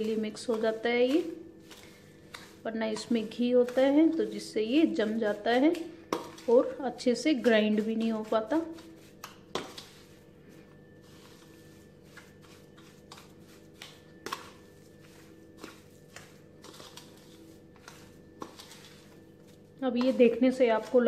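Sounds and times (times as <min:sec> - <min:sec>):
mixture rustling by hand: 0:00.0 - 0:21.0
spoon scraping through crumbly mix: 0:00.0 - 0:21.0.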